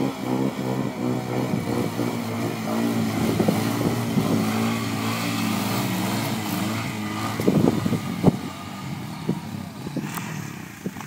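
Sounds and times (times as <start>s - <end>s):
quad bike engine revving: 0.0s - 11.0s.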